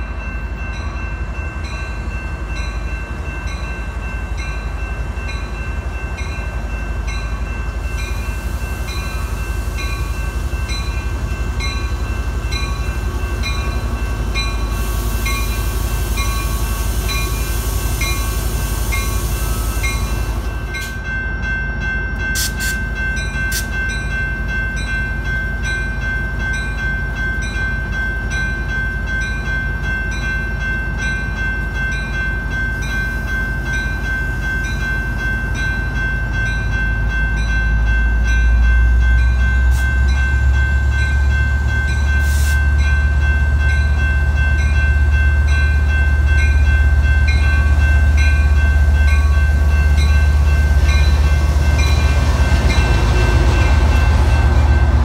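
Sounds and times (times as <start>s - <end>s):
train rumbling by: 0.0s - 55.0s.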